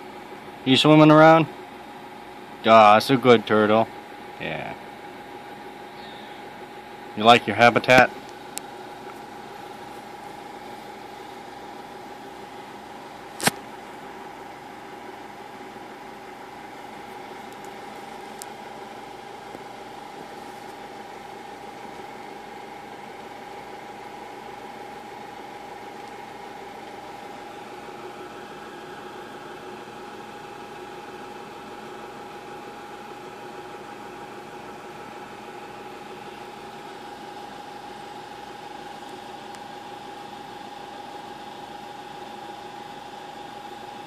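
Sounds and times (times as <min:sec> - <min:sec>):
steady mechanical hum: 0:00.0 - 0:44.0.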